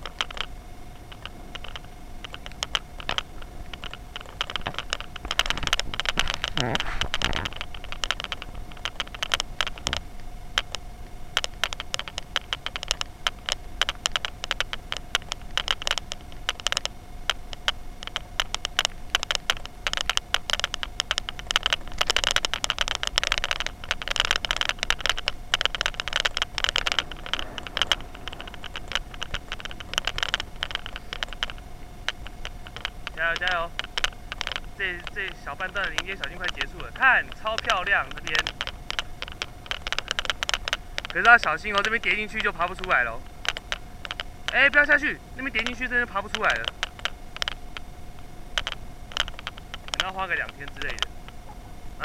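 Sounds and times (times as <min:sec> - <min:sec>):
faint steady tone: 0:00.0 - 0:52.0.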